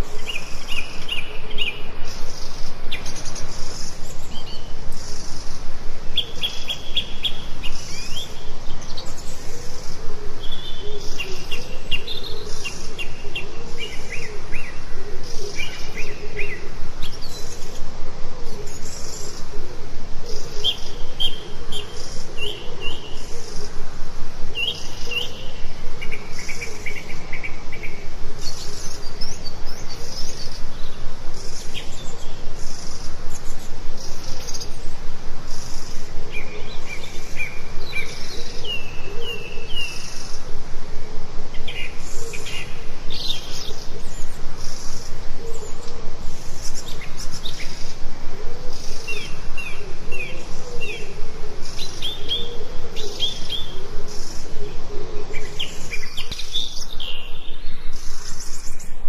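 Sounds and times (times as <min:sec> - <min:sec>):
loud background hiss: 0:00.0 - 0:59.0
songbirds chirping and singing: 0:00.0 - 0:59.0.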